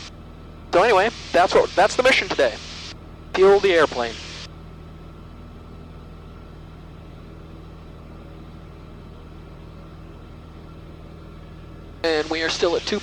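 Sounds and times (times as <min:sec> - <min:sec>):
airplane engine and propeller droning: 0:00.0 - 0:13.0.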